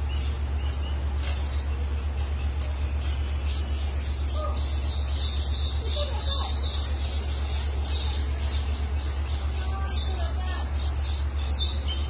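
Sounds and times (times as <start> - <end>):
songbirds chirping in alarm: 0.0 - 12.0
steady low hum: 0.0 - 12.0.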